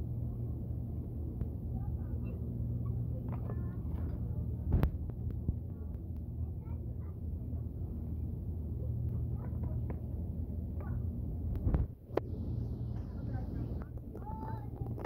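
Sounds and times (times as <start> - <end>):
faint distant voices: 0.0 - 15.0
low hum: 0.0 - 15.0.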